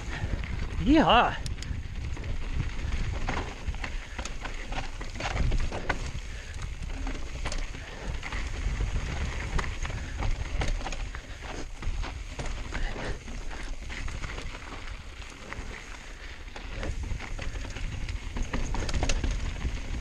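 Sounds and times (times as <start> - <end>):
bike clicks and rattles: 0.0 - 20.0
tyres crunching over gravel: 0.0 - 20.0.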